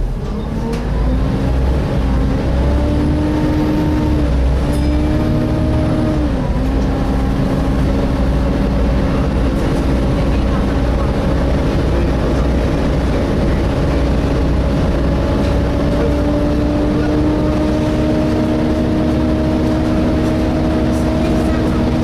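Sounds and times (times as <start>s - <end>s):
bus engine and road rumble: 0.0s - 22.0s
engine cooling fan whine: 0.0s - 22.0s.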